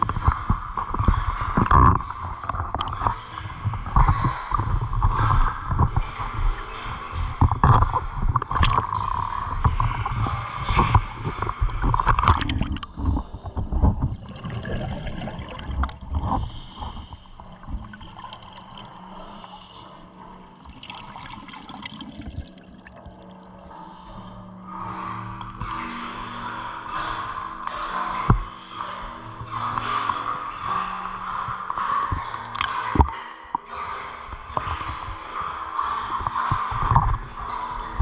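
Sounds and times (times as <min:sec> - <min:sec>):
regulator bubbles gurgling underwater: 0:00.0 - 0:38.0.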